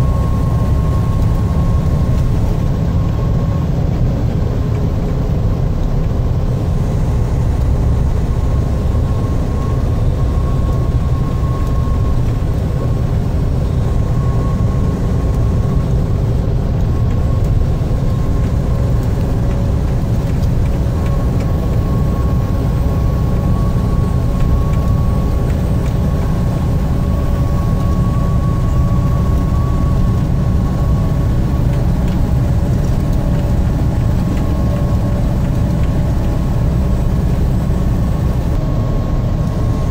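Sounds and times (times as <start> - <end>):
faint steady whine: 0.0 - 39.9
vehicle engine and road noise: 0.0 - 39.9.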